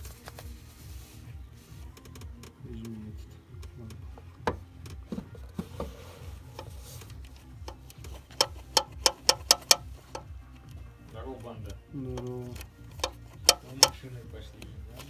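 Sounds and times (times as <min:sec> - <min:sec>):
engine rumbling with ticking knock: 0:01.8 - 0:15.0.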